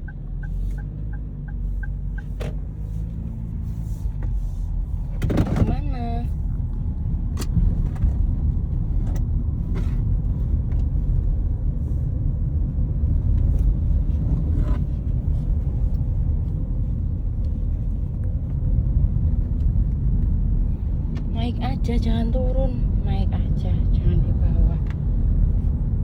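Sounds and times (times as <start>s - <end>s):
car driving rumble: 0.0s - 26.0s.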